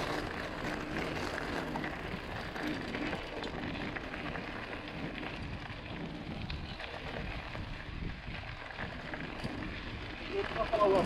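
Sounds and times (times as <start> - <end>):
bike tyre noise: 0.0 - 11.0
wind rumbling on microphone: 0.0 - 11.0.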